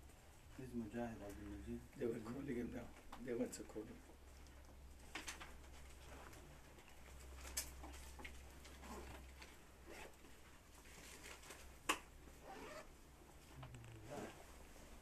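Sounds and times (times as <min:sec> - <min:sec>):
faint rustling and handling: 0:00.0 - 0:15.0.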